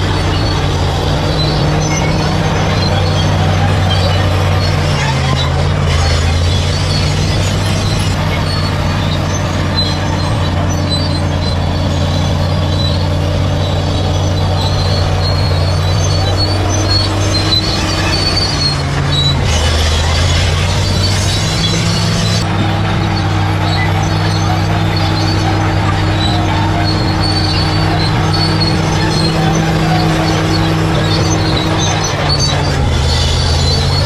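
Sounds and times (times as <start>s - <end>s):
bulldozer diesel engine: 0.0s - 34.0s
steel tracks squealing and clanking: 0.0s - 34.0s.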